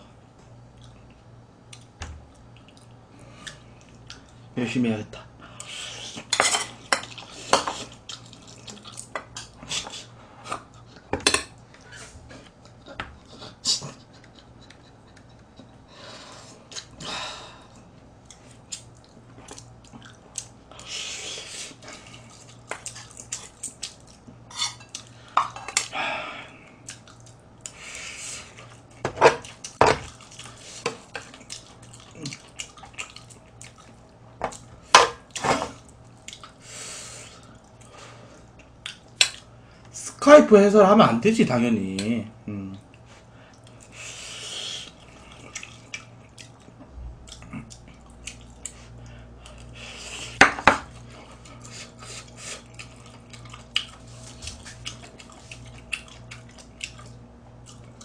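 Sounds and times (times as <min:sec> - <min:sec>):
chewing and mouth noises: 0:00.7 - 0:04.4, 0:05.5 - 0:15.8, 0:17.7 - 0:25.9, 0:26.5 - 0:34.7, 0:35.3 - 0:36.6, 0:37.2 - 0:39.5, 0:44.7 - 0:58.0.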